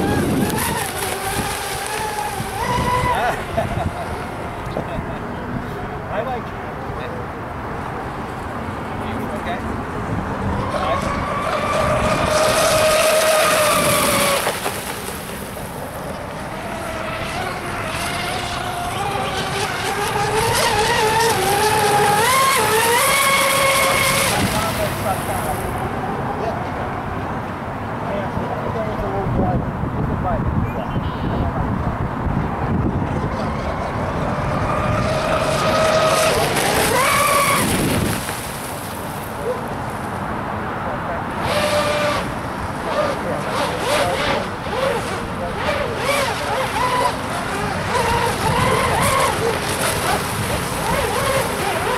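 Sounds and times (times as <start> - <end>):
model boat motor whine: 0.0 - 30.1, 30.9 - 39.9, 40.8 - 51.9.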